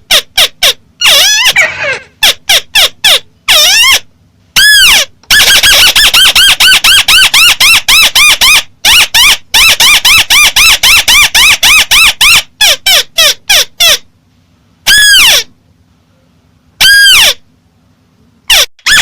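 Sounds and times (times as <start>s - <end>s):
amplified bird call: 0.1s - 14.1s, 14.9s - 15.5s, 16.8s - 17.5s, 18.5s - 19.0s.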